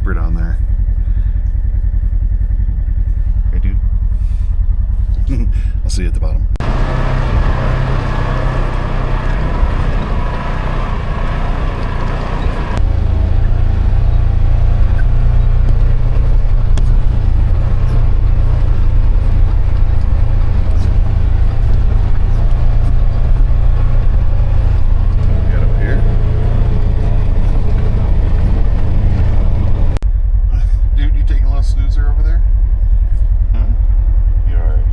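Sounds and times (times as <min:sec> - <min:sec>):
utility vehicle engine droning: 0:00.0 - 0:34.9.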